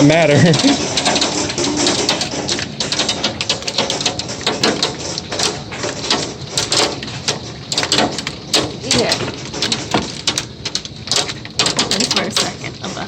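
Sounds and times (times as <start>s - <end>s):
hail clattering on hard surfaces: 0.0s - 13.0s.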